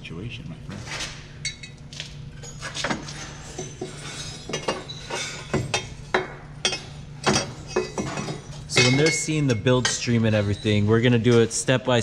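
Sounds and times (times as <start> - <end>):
steady low hum: 0.0 - 12.0
metal tools clinking: 1.4 - 11.7.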